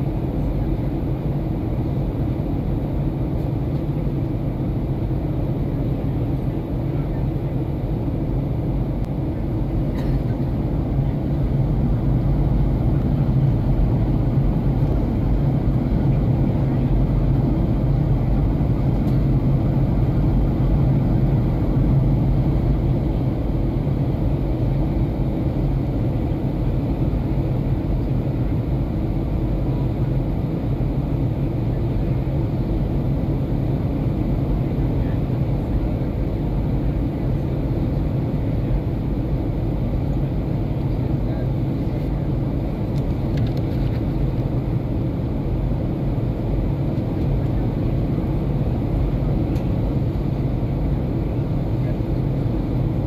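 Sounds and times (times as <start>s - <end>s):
aircraft cabin engine drone: 0.0s - 53.0s.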